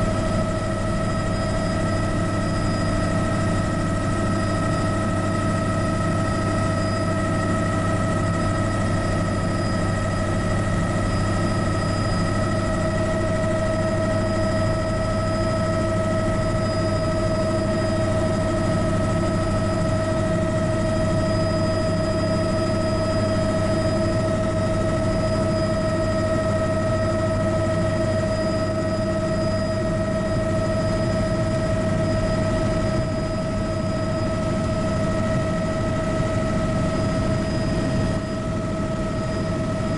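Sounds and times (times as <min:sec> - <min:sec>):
helicopter engine and rotors: 0:00.0 - 0:39.9
high turbine whine: 0:00.0 - 0:39.9.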